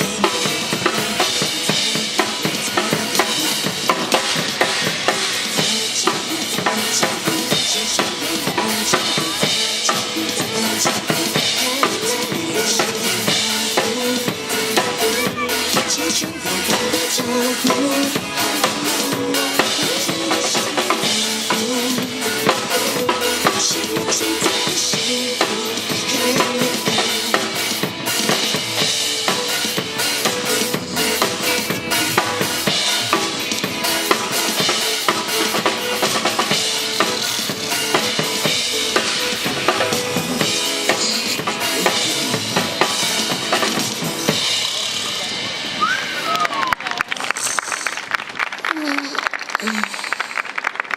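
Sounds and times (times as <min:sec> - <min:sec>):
drum kit beat: 0:00.0 - 0:46.4
live band playing pop music: 0:00.0 - 0:48.0.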